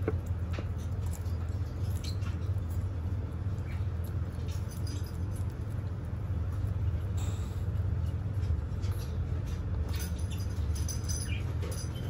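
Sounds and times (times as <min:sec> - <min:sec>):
steady low hum: 0:00.0 - 0:12.0
tortoises chewing greens: 0:00.0 - 0:12.0.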